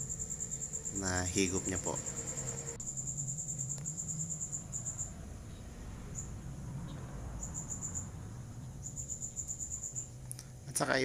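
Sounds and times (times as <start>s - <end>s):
insect chirping trills: 0.0s - 10.6s
low background rumble: 0.0s - 11.0s.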